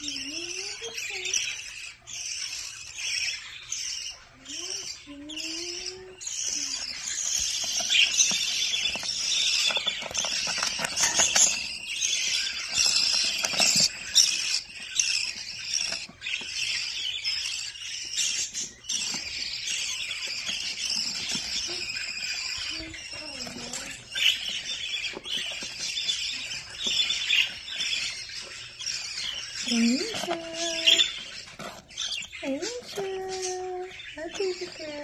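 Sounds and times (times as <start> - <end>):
budgerigars chattering and cheeping: 0.0 - 35.0.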